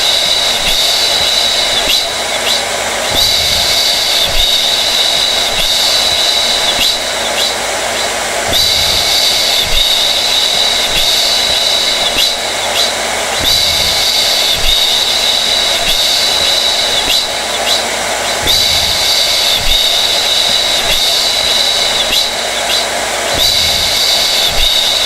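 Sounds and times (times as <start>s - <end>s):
hair dryer running: 0.0s - 25.0s.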